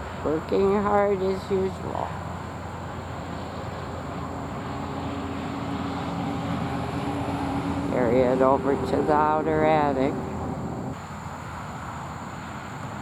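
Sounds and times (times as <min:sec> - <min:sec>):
distant engine hum: 0:00.0 - 0:13.0.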